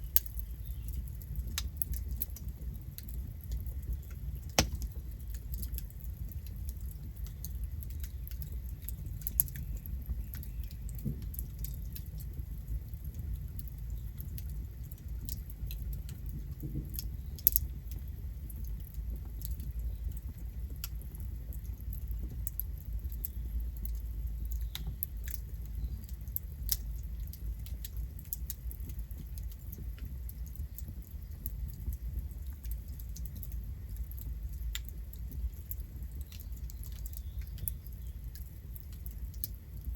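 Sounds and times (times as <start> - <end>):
campfire wood crackling: 0.0 - 39.9.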